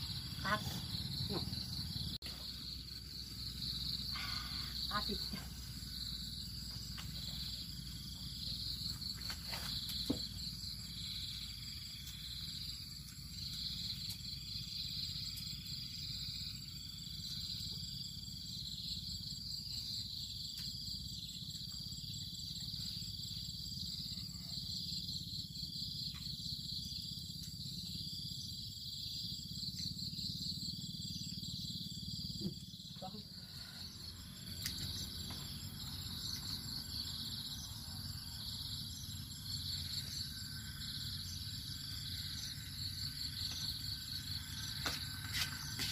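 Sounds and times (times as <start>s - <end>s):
insect chorus trilling: 0.0s - 45.9s.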